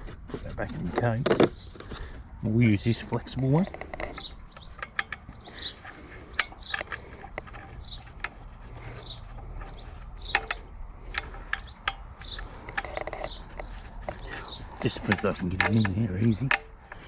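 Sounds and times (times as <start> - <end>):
tool kit clicks and taps: 0.3 - 2.0, 3.6 - 17.0.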